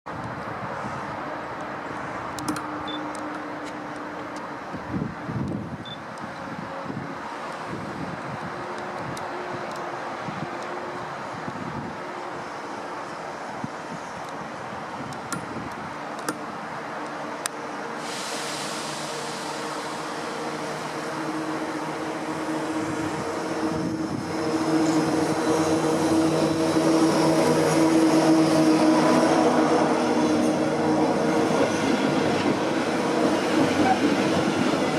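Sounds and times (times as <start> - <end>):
electric locomotive humming: 0.2 - 34.9.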